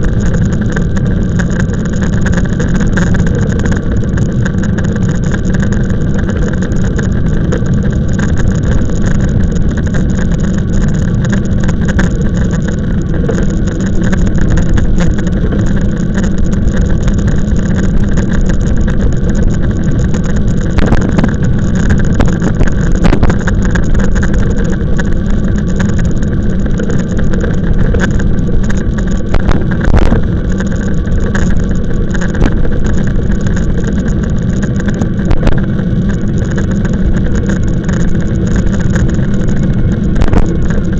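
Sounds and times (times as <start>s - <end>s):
road noise from bike: 0.0s - 40.9s
wind buffeting microphone: 0.0s - 40.9s.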